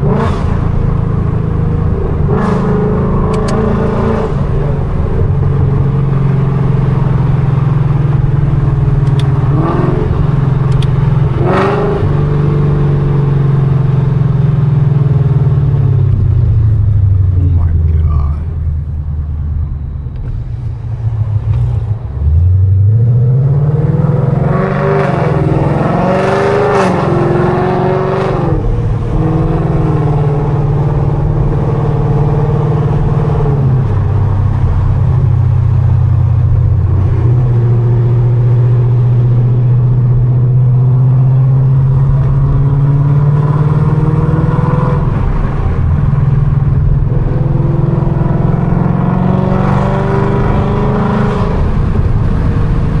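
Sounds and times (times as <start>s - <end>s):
car exhaust revving hard: 0.0s - 53.0s.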